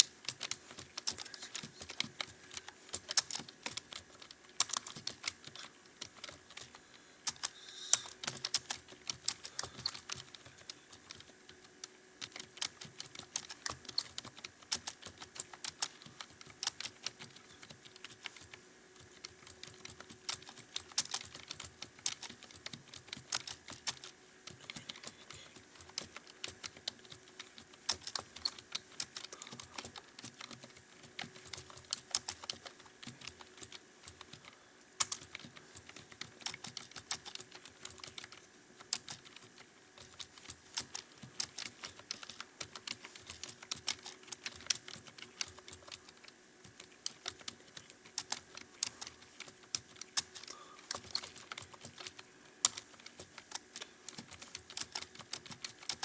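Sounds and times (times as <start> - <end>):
fast typing on keyboard: 0.0 - 56.0.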